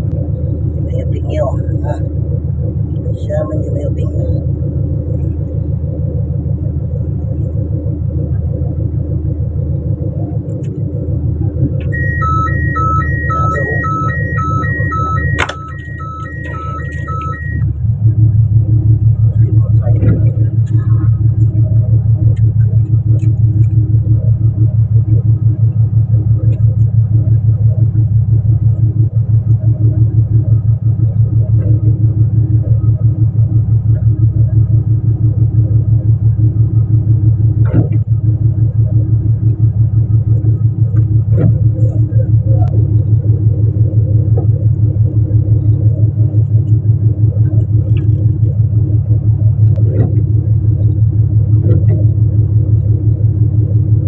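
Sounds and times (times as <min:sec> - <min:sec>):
boat engine throbbing: 0:00.0 - 0:54.0.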